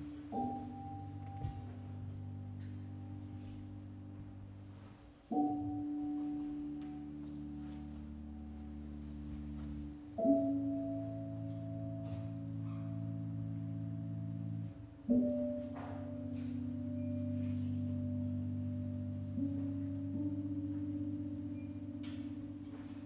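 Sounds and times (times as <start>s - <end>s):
low held chord: 0.0s - 23.0s.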